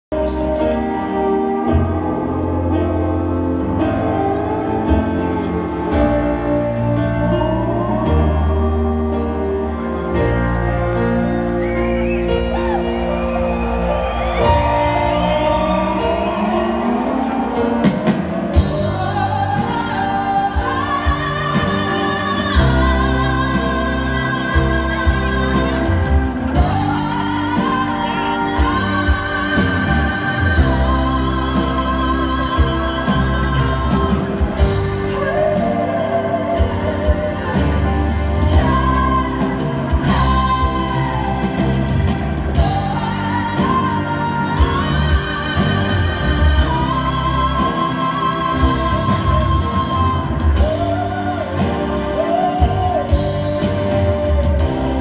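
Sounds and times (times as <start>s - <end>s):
live rock band: 0.1s - 55.0s.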